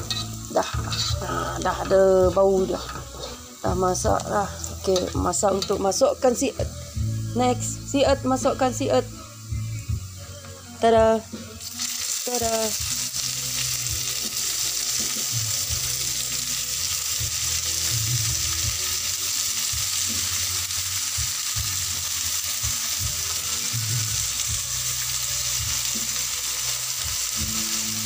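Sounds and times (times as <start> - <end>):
grubs sizzling in a wok: 0.0 - 28.0.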